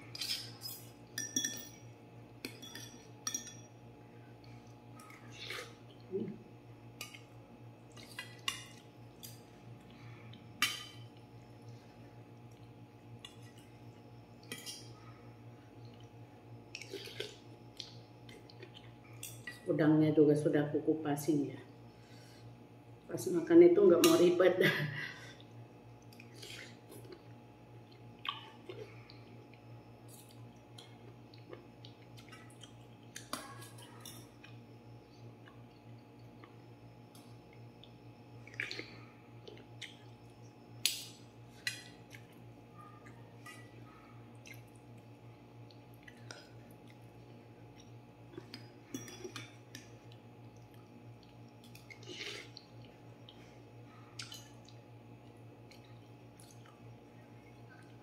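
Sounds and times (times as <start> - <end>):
steady low hum: 0.0 - 58.0
soft chewing: 4.3 - 19.6, 25.2 - 58.0.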